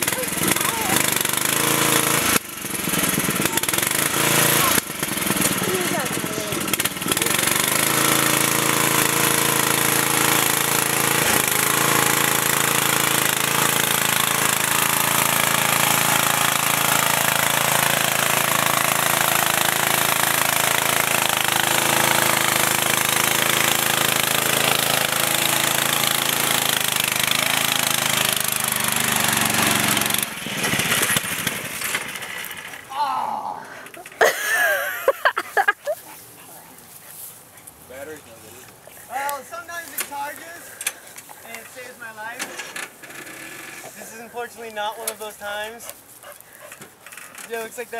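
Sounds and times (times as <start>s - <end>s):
lawn mower engine running: 0.0s - 32.9s, 33.7s - 35.9s, 37.9s - 47.9s.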